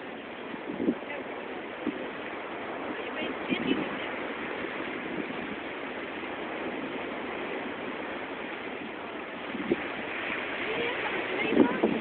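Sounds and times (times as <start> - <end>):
surf washing up a beach: 0.0 - 12.0.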